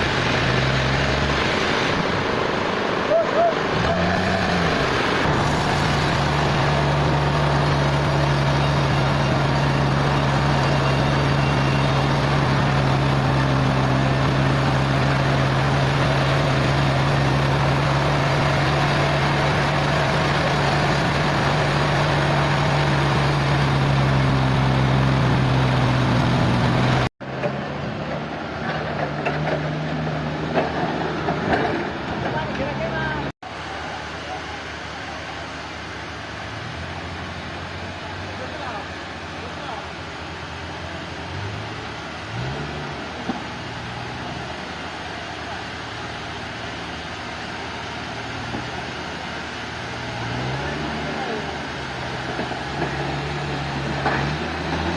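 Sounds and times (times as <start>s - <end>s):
heavy machinery engine running: 0.0s - 54.9s.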